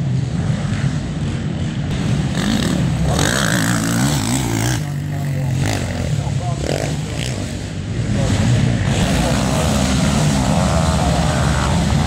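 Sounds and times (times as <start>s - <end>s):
quad engines racing: 0.0s - 12.0s
quad engine revving up close: 1.9s - 12.0s.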